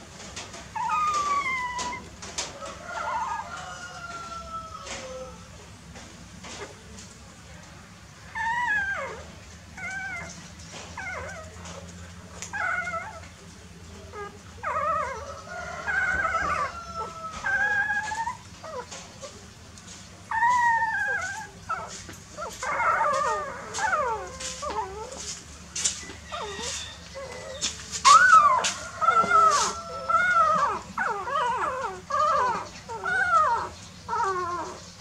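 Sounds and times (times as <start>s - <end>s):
puppies whining: 0.0s - 5.6s, 8.2s - 35.0s.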